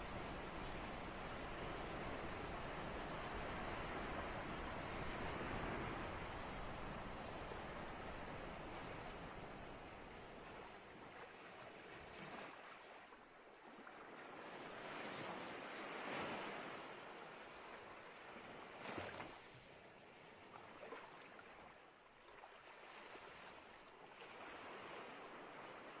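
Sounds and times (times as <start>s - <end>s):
sea waves washing ashore: 0.0s - 21.7s, 22.3s - 26.0s.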